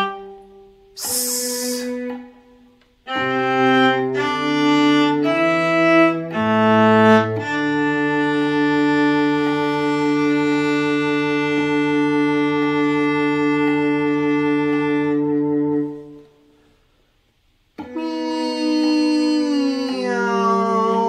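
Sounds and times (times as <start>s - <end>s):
viola glissando: 0.0s - 16.6s, 17.8s - 21.0s
viola long bowed note: 0.0s - 16.7s, 17.8s - 21.0s.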